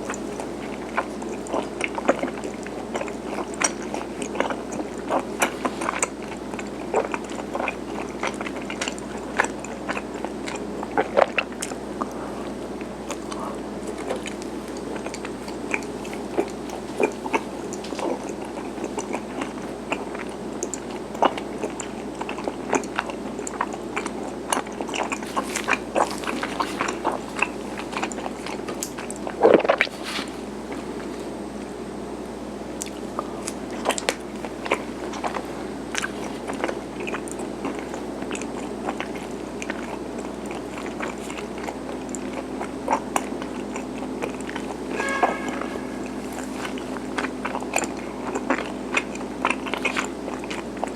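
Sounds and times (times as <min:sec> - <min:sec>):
biting and chewing: 0:00.0 - 0:31.7, 0:32.6 - 0:50.9.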